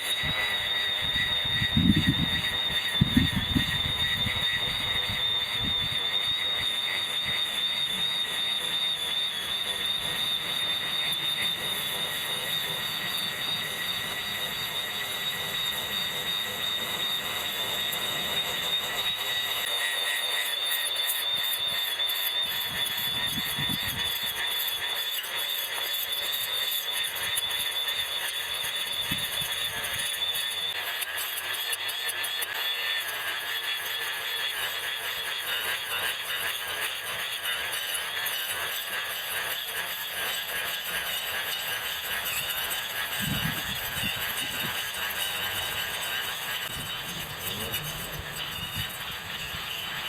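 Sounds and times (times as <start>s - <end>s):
electric grass trimmer whine: 0.0s - 50.0s.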